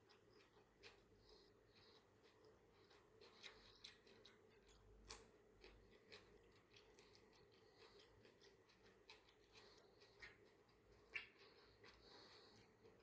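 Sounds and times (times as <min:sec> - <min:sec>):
crunching of salad eating: 0:00.0 - 0:13.0.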